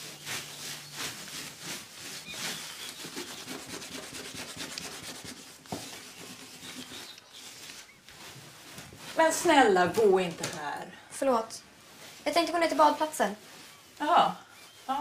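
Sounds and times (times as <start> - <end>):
cloth rubbing wooden floor: 0.0 - 10.4, 11.6 - 15.0.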